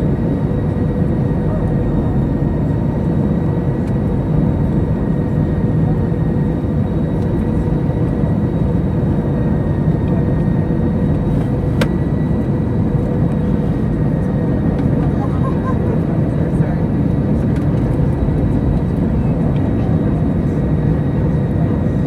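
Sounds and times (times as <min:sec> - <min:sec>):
jet engine rumble: 0:00.0 - 0:22.0.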